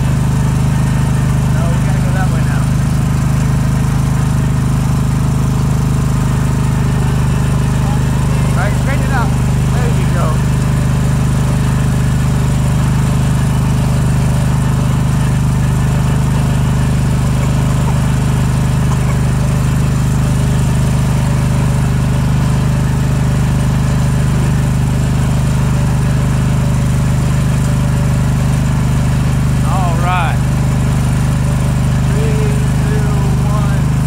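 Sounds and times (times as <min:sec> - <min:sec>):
riding lawn mower engine running: 0:00.0 - 0:34.0.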